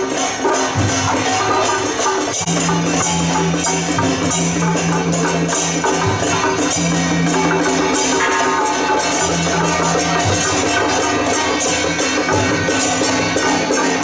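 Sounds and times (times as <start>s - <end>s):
cymbal clashes: 0.0s - 14.0s
traditional procession music: 0.0s - 14.0s.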